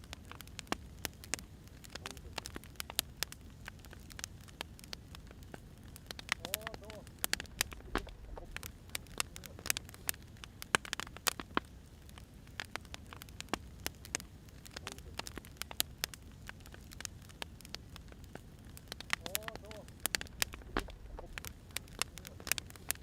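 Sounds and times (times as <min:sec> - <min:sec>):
firewood crackling and popping: 0:00.0 - 0:23.0
low rumble of fire: 0:00.0 - 0:23.0.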